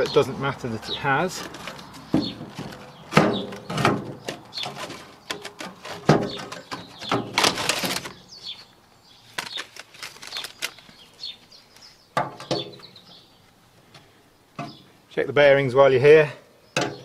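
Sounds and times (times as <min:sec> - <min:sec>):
brushy rustling: 0:00.0 - 0:15.2.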